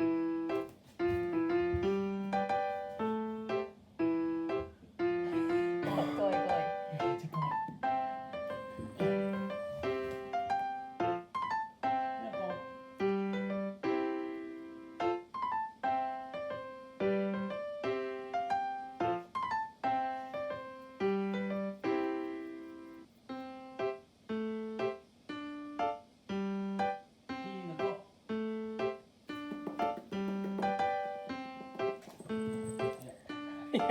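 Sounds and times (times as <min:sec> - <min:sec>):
piano music: 0:00.0 - 0:33.9.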